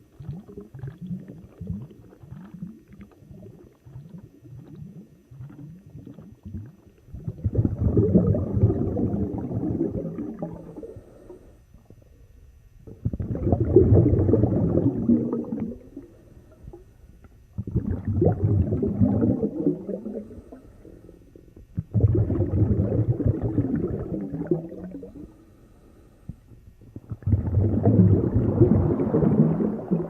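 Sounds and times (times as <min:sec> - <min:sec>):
underwater bubbling and gurgling: 0:00.0 - 0:30.0.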